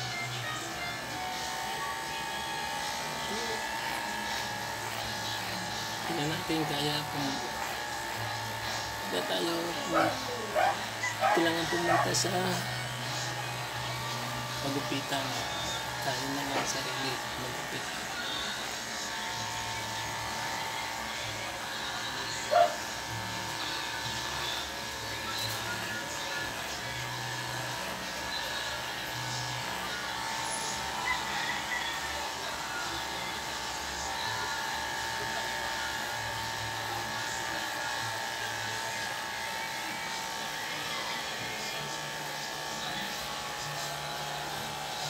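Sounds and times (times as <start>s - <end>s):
electric hair clippers buzzing: 0.0s - 45.0s.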